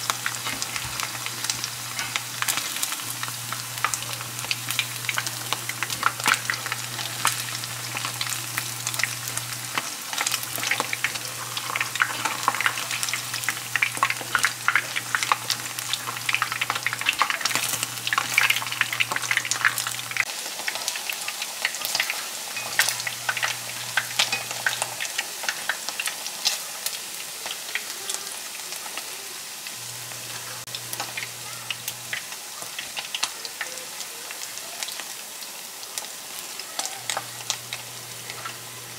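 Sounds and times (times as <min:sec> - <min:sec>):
food frying in hot oil: 0:00.0 - 0:38.9.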